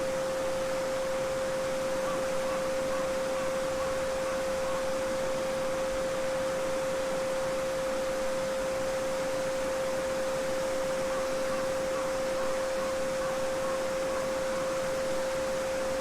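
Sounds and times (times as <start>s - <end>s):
pure sine tone: 0.0s - 16.0s.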